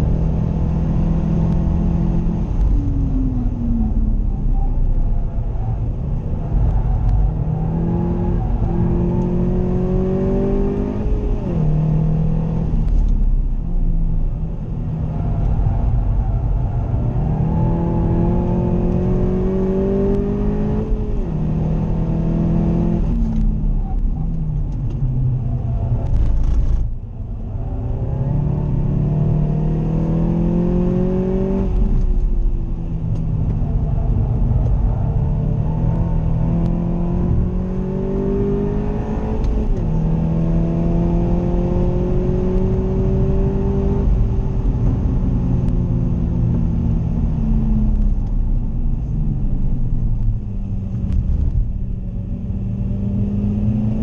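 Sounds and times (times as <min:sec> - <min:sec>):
car engine accelerating: 0:00.0 - 0:54.0
road rumble: 0:00.0 - 0:54.0.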